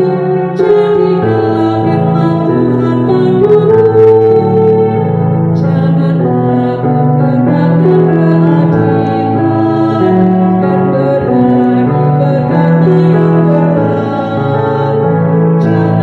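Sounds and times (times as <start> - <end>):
electronic keyboard: 0.0 - 16.0
woman singing a hymn: 0.0 - 16.0.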